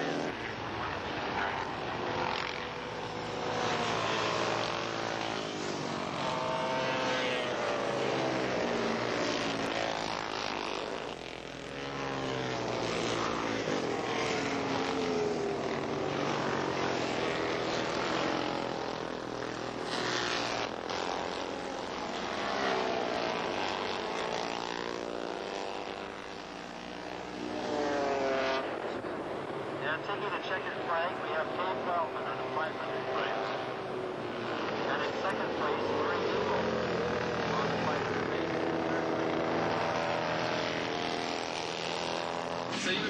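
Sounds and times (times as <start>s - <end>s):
racing motorcycles passing: 0.0s - 43.0s.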